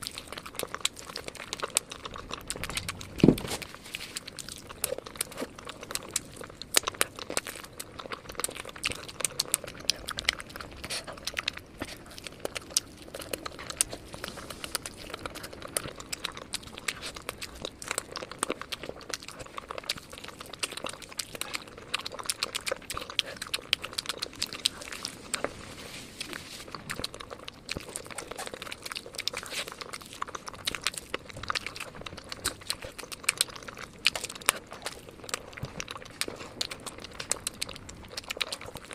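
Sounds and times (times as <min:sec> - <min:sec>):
crunchy chewing of fried chicken: 0:00.0 - 0:38.9.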